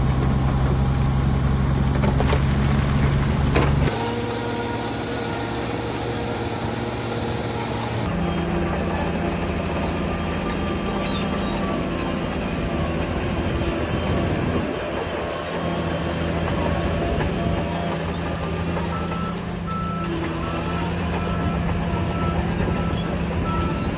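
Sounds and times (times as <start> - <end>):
heavy diesel machinery running: 0.0 - 23.9
steel crawler tracks squealing: 2.1 - 23.9.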